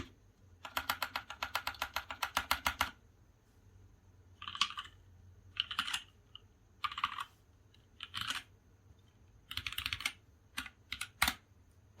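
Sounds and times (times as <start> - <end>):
mechanical keyboard typing: 0.0 - 3.0, 4.3 - 11.5.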